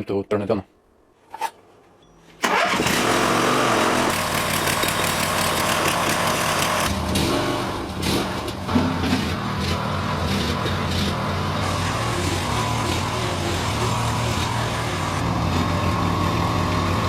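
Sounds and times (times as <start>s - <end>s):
loader engine running: 2.4s - 17.0s.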